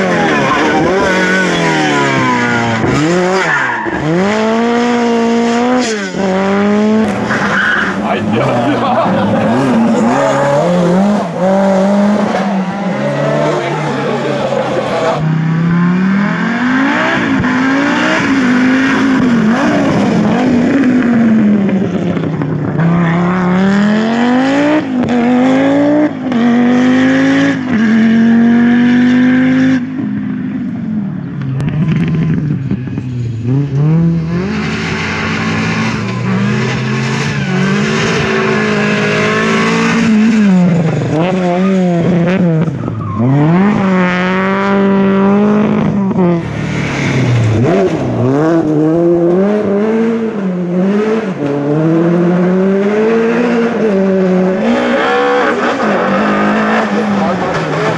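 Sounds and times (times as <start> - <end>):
rally car engines at hard throttle: 0.0 - 57.9.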